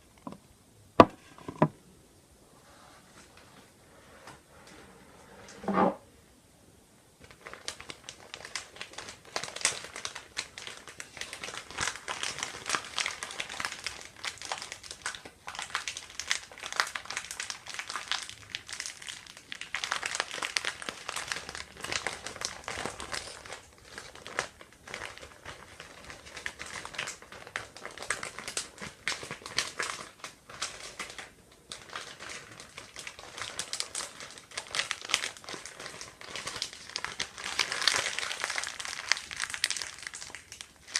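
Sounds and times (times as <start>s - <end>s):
plastic crinkling: 7.2s - 40.9s.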